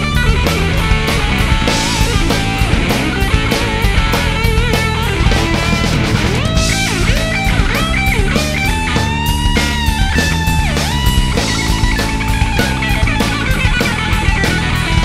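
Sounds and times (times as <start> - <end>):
drums: 0.0 - 15.0
electric guitar lead: 0.0 - 15.0
low rhythm part: 0.0 - 15.0.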